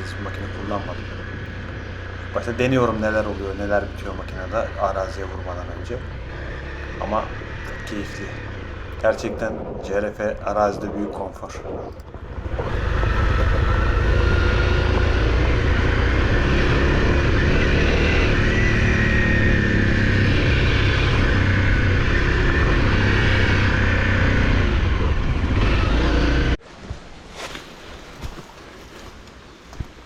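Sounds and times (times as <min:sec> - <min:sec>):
dirt bike engine running: 0:00.0 - 0:10.1, 0:11.8 - 0:26.6.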